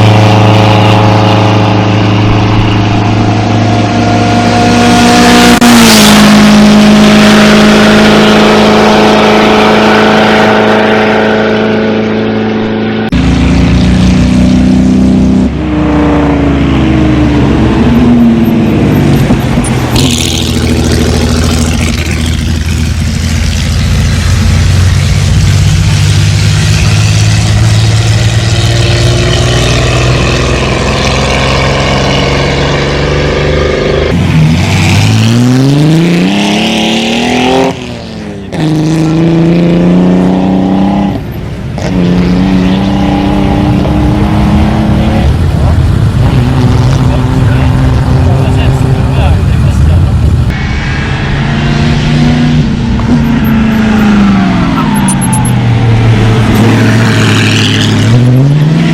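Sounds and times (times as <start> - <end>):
racing car engine revving: 0.0 - 58.9.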